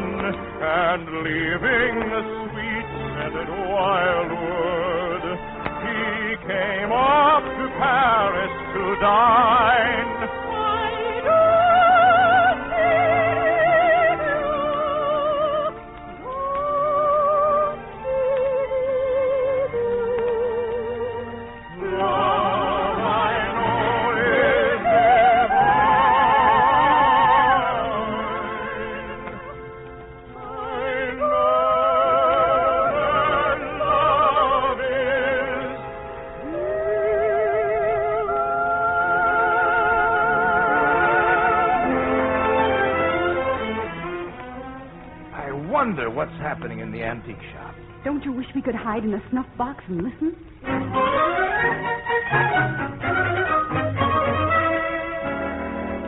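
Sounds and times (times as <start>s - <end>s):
operatic singing with vibrato: 0.0s - 48.3s, 50.2s - 56.0s
soft musical accompaniment: 0.0s - 56.0s.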